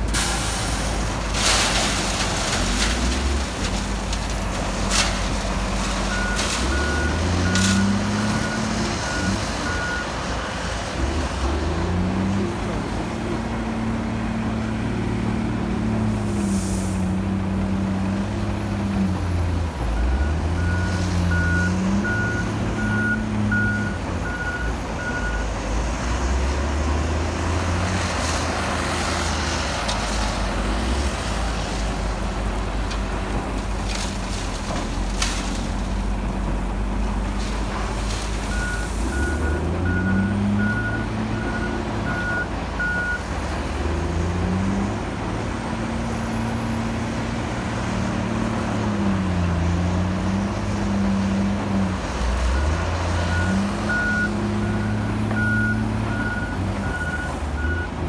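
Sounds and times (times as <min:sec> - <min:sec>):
excavator diesel engine working: 0:00.0 - 0:58.0.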